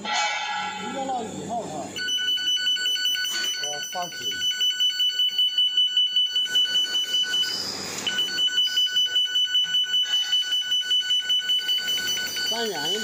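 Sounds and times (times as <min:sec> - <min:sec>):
rapid high electronic beeping: 0:02.0 - 0:13.0.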